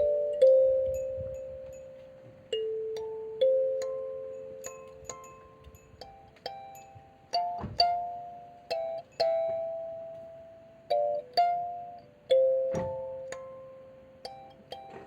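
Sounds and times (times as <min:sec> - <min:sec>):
kalimba melody: 0:00.0 - 0:15.0
small wind chime tinkling: 0:00.0 - 0:15.0.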